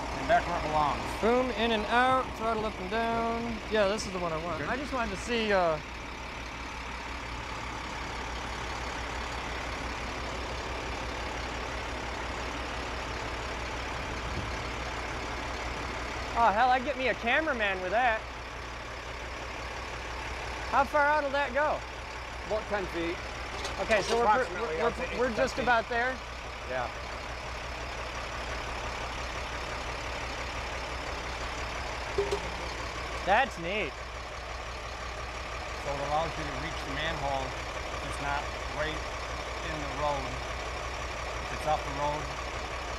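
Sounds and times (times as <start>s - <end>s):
truck engine humming: 0.0s - 42.9s.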